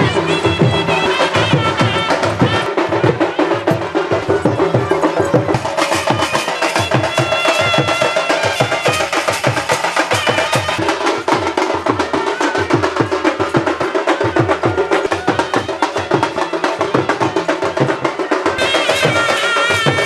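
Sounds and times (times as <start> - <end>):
music with fast drumming: 0.0 - 20.0.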